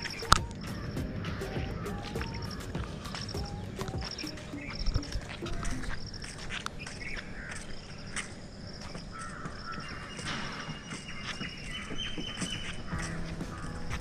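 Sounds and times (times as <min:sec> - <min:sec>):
high-pitched bird calls: 0:00.0 - 0:14.0
lower bird calls: 0:00.0 - 0:14.0.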